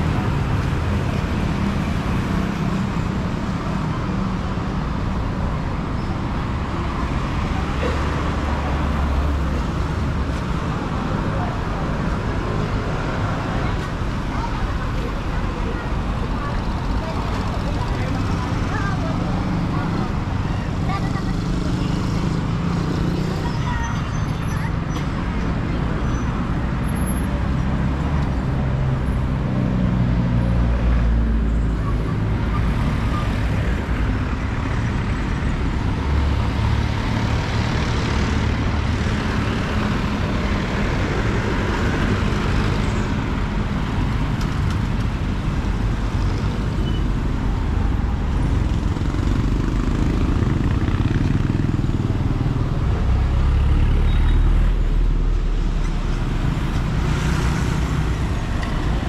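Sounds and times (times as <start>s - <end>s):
tyre and road noise: 0.0s - 59.0s.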